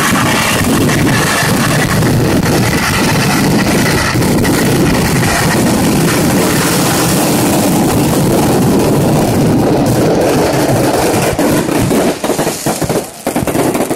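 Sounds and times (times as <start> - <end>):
firecrackers going off: 0.0 - 13.9.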